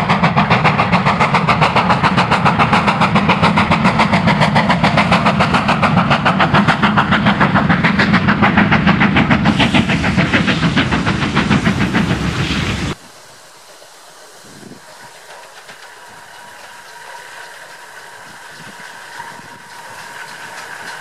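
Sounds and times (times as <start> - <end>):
rushing hiss: 0.0 - 21.0
steam locomotive exhaust beats: 0.0 - 21.0.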